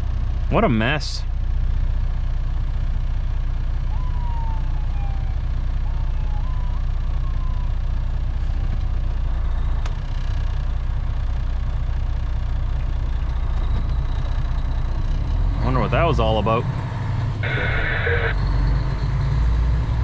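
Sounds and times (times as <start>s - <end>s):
diesel truck engine rumble: 0.0s - 20.0s.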